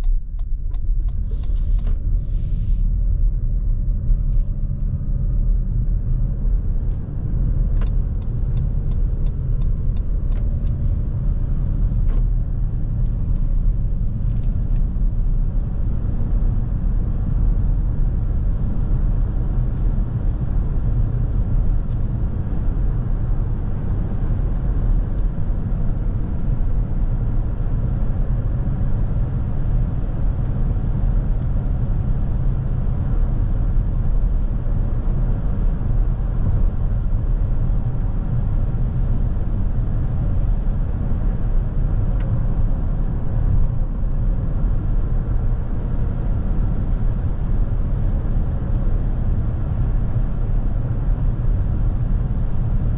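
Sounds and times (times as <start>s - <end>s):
road and tyre rumble: 0.0s - 52.9s.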